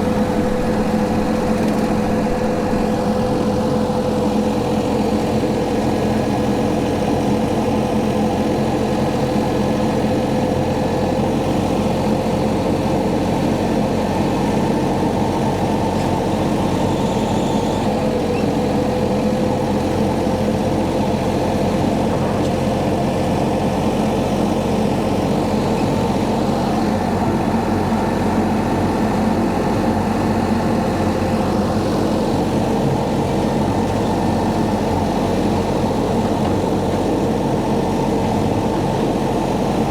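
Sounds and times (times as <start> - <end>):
tractor engine pulling rotary mower: 0.0 - 39.9.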